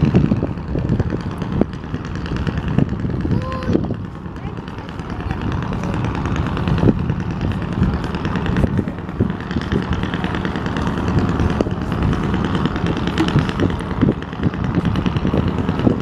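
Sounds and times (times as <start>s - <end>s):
boat diesel engine running: 0.0s - 16.0s
wind buffeting microphone: 0.0s - 16.0s.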